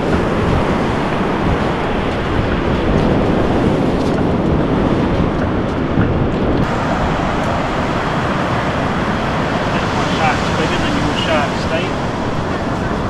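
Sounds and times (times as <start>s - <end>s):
beach surf: 0.0s - 13.0s
wind rumbling on microphone: 0.0s - 13.0s.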